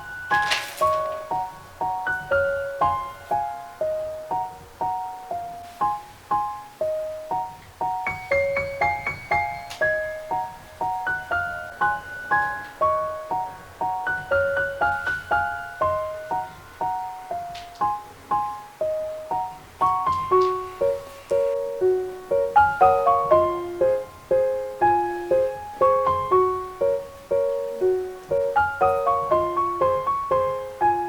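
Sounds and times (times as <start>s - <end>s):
gentle piano melody: 0.0s - 31.0s.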